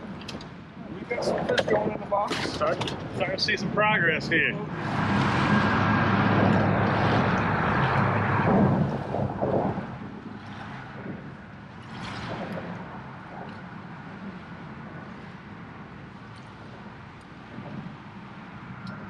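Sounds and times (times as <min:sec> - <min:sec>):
outboard engine humming: 0:00.0 - 0:19.0
wind and water rushing: 0:00.0 - 0:19.0.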